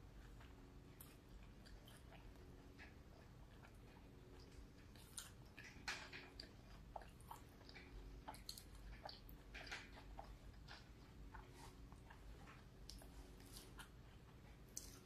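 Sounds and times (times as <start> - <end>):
person chewing with mouth closed: 0.0 - 15.0.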